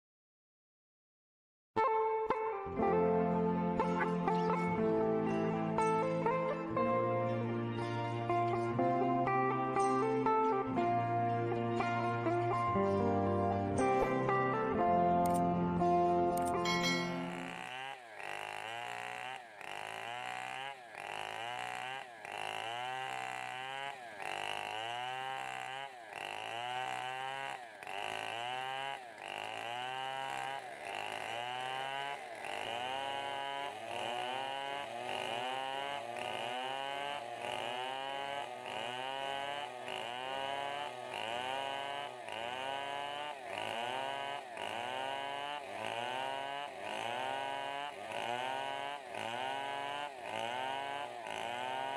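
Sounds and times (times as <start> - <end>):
chainsaws cutting timber: 2.8 - 51.9.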